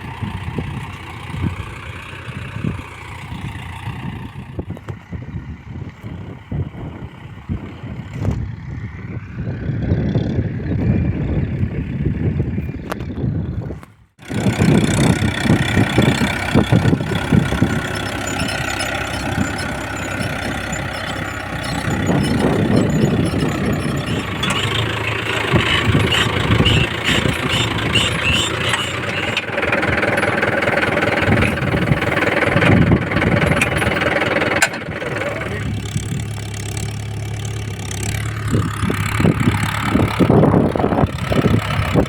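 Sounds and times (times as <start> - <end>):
tractor diesel engine running: 0.0 - 12.6, 14.2 - 42.0.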